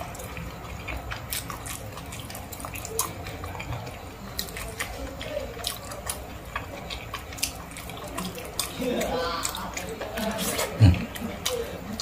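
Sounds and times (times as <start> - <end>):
person chewing with wet smacking: 0.0 - 12.0.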